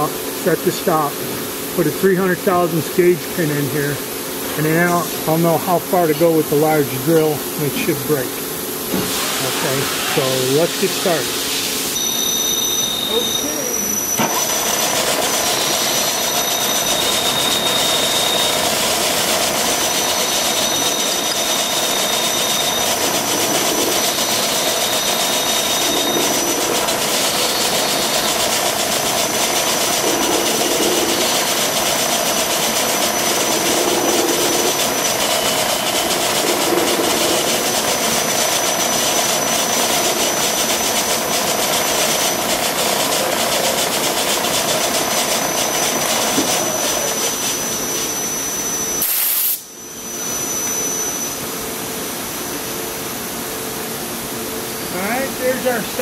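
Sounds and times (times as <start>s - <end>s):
thin high whine: 0.0s - 56.0s
milling machine running: 0.1s - 56.0s.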